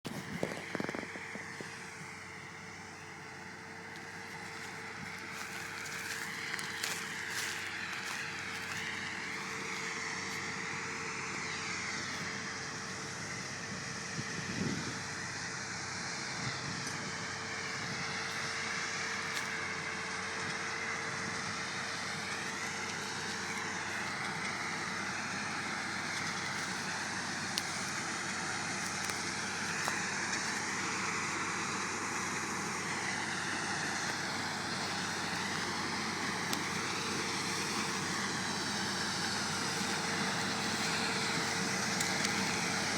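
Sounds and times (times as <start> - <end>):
combine harvester running: 0.0 - 42.9.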